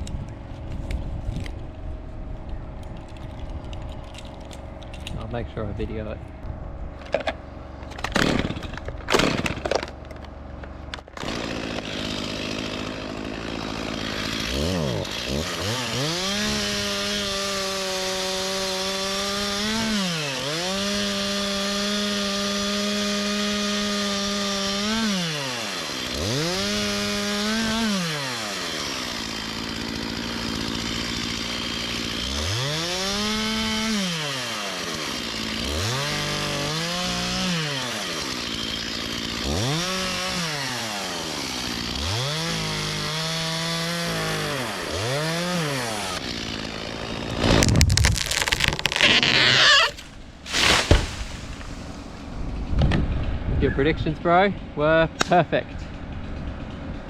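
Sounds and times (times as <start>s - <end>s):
chainsaw cutting wood: 7.0s - 53.6s, 54.3s - 57.0s.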